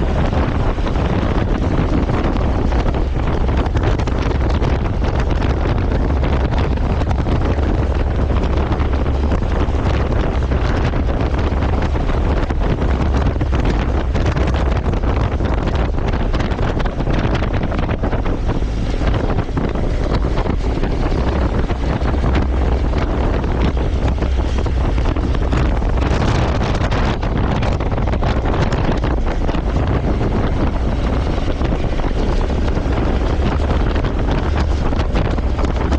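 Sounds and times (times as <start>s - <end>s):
deep motorcycle rumble: 0.0s - 35.9s
wind buffeting microphone: 0.0s - 35.9s.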